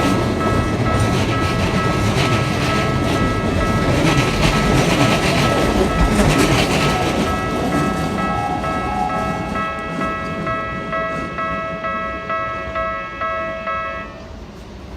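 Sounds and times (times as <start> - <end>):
level crossing alarm bell: 0.0 - 14.4
train rumble: 0.0 - 14.9.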